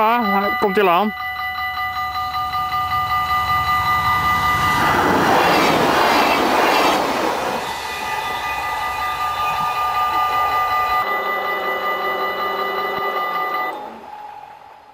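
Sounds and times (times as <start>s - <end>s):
crossing warning bell ringing: 0.0s - 14.6s
train wheels rushing past: 2.8s - 14.9s.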